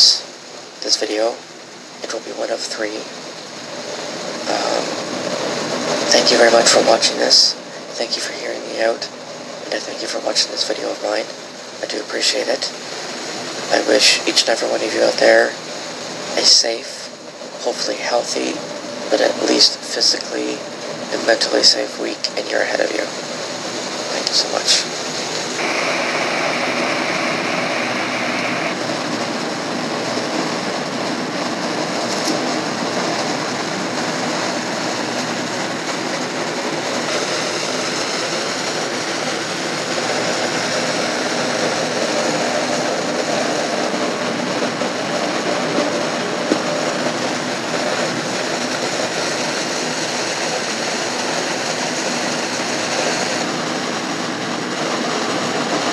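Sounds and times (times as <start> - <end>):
steady even noise: 0.0 - 55.9.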